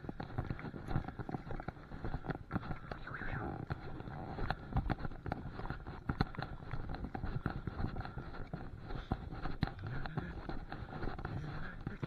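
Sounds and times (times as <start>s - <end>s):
footsteps on a path: 0.0s - 12.0s.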